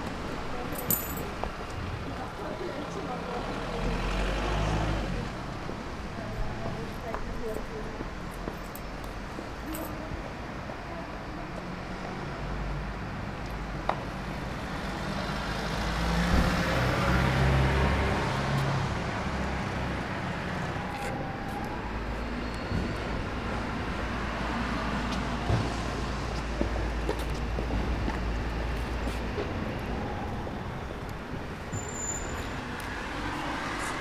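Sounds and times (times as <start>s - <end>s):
street traffic: 0.0s - 34.0s.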